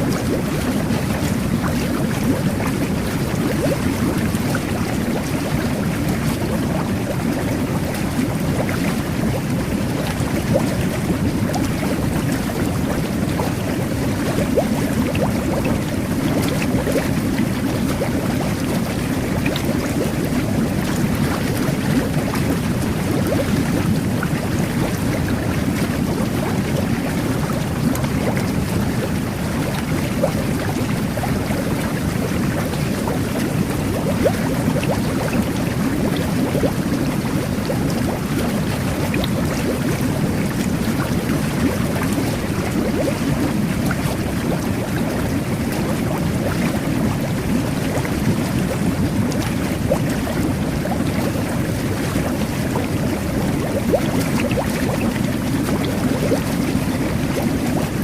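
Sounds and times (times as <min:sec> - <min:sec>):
jet bath water churning and bubbling: 0:00.0 - 0:58.0.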